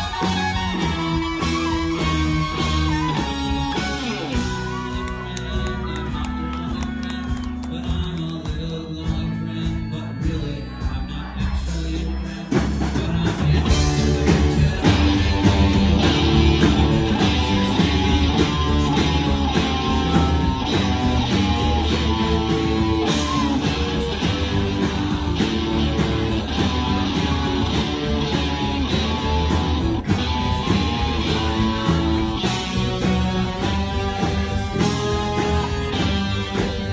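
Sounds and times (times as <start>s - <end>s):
bass guitar: 0.0s - 36.9s
drums: 0.0s - 36.9s
electric guitars: 0.0s - 36.9s
keyboards: 0.0s - 36.9s.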